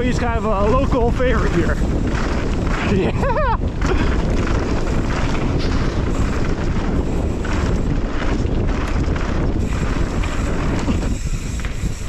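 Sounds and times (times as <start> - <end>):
bike rattling over rough ground: 0.0 - 12.0
tyres rumbling: 0.0 - 12.0
wind buffeting microphone: 0.0 - 12.0.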